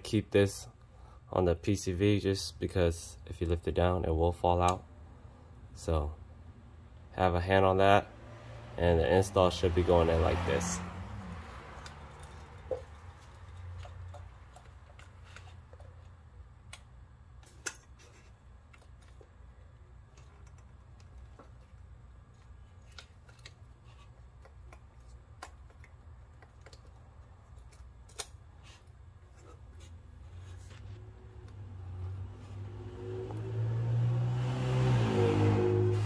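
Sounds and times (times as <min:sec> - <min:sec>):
low steady hum: 0:00.0 - 0:33.8.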